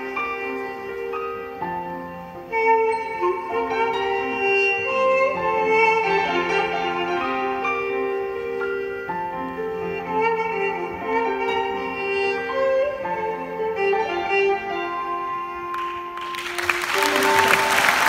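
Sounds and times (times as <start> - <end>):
bowed fiddle melody: 0.0 - 18.0.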